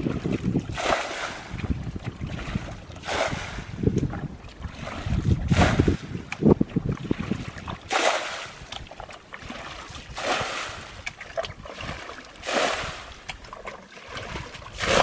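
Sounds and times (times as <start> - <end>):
water splashing from bucket: 0.0 - 15.0.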